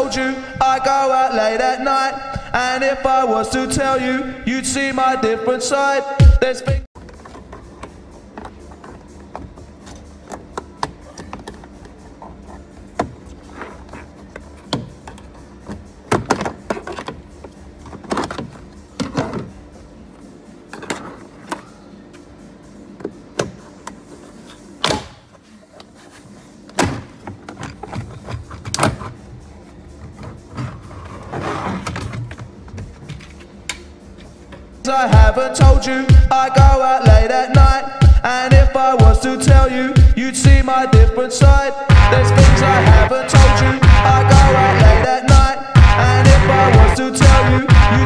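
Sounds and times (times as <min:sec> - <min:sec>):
background music: 0:00.0 - 0:25.3, 0:28.5 - 0:48.0.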